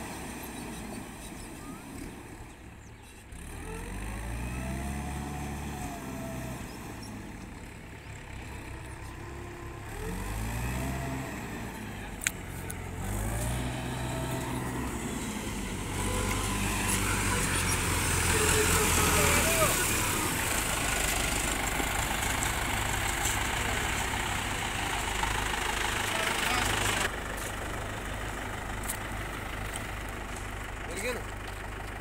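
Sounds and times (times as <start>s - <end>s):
tractor diesel engine revving: 0.0s - 32.0s.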